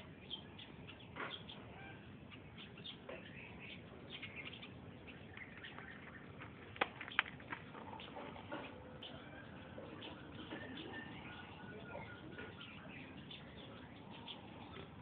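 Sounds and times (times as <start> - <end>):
background noise: 0.0 - 15.0
birds chirping: 0.0 - 15.0.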